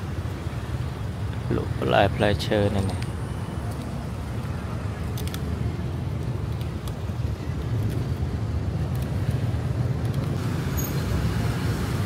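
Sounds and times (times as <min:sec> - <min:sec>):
cars and motorbikes passing: 0:00.0 - 0:12.0
street traffic rumble: 0:00.0 - 0:12.0.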